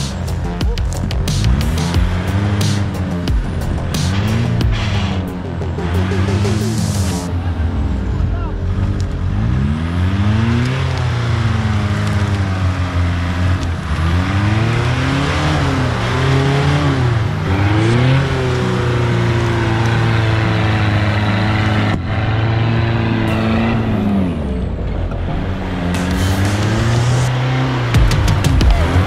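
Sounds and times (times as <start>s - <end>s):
engine revving hard: 0.0s - 29.0s.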